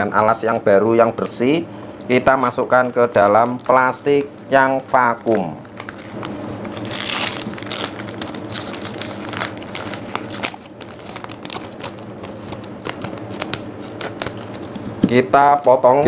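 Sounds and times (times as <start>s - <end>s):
plastic bag crinkling: 2.4s - 16.0s.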